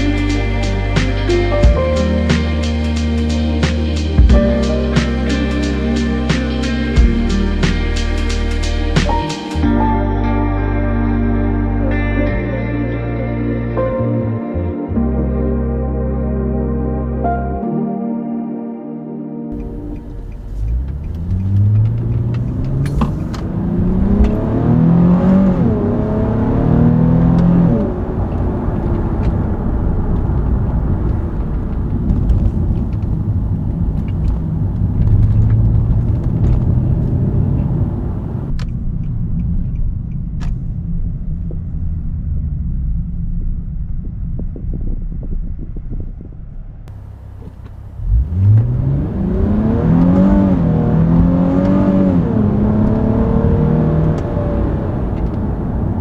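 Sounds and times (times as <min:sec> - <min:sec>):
car engine accelerating: 0:00.0 - 0:14.2, 0:19.6 - 0:38.6, 0:42.0 - 0:56.0.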